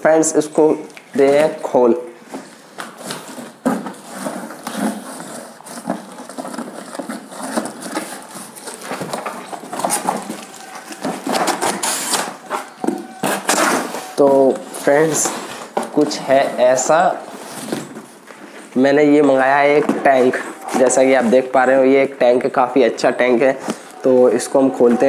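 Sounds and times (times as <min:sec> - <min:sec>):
cardboard rustling and scraping: 0:01.1 - 0:22.2.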